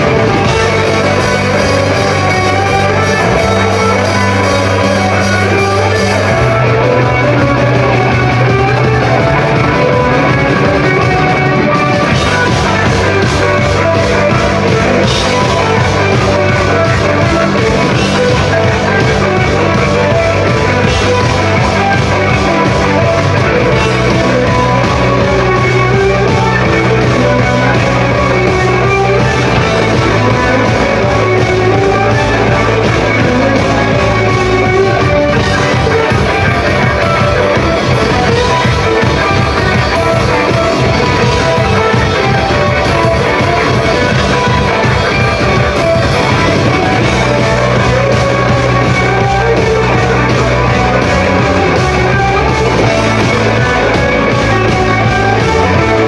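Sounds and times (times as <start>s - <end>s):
bass line: 0.0s - 56.0s
drums: 0.0s - 56.0s
electric guitar: 0.0s - 56.0s
rock band playing live: 0.0s - 56.0s.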